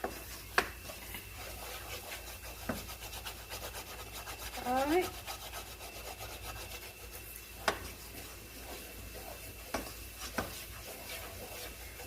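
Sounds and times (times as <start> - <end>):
utensil stirring and scraping pan: 0.0 - 12.0.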